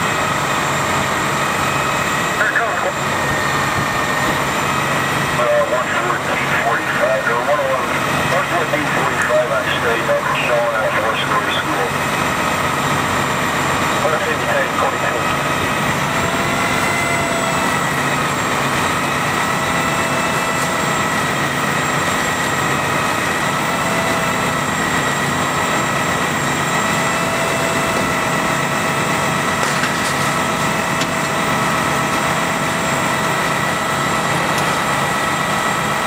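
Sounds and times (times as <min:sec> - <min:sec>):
diesel engines running: 0:00.0 - 0:36.0
high-pitched whine: 0:00.0 - 0:36.0.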